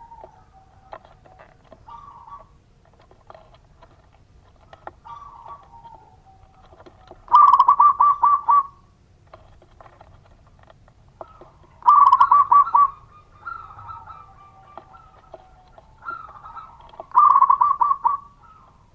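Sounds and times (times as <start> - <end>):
dove cooing: 0.0 - 18.9.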